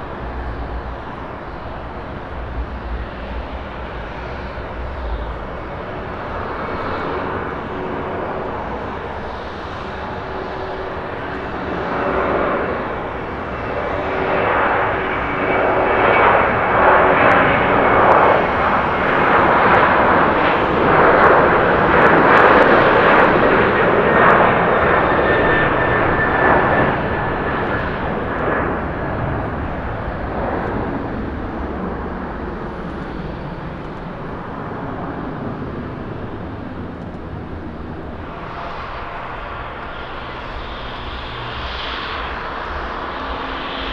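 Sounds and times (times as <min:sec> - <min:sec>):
jet engines at takeoff: 0:00.0 - 0:43.9.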